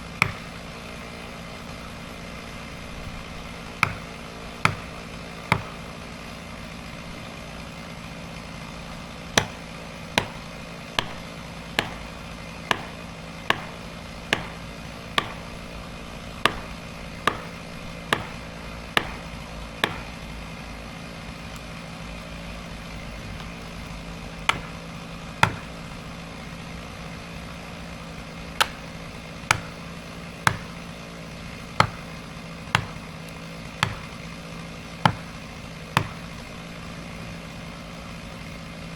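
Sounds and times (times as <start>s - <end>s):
small engine idling: 0.0s - 38.9s.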